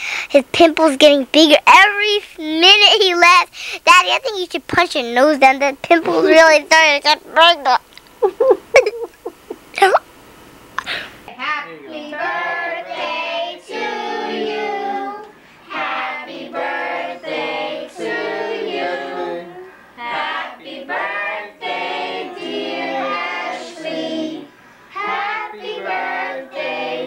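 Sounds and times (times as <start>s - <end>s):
child singing: 0.3s - 7.8s, 11.3s - 27.0s.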